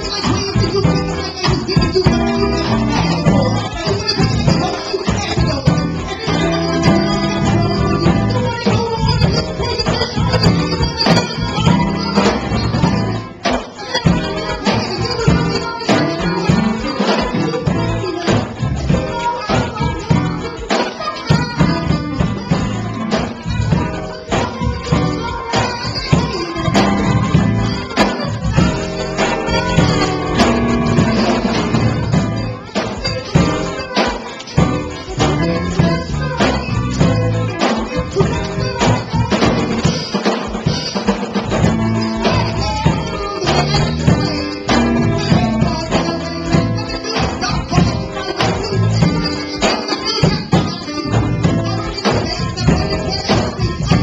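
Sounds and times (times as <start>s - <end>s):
drum kit beat with cymbals: 0.0s - 54.0s
electric guitar: 0.0s - 54.0s
keyboard: 0.0s - 54.0s.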